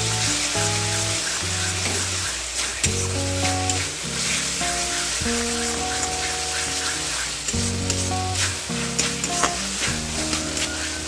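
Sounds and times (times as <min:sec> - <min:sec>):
background music: 0:00.0 - 0:11.0
food sizzling in a wok: 0:00.0 - 0:11.0
metal spatula scraping pan: 0:00.1 - 0:11.0.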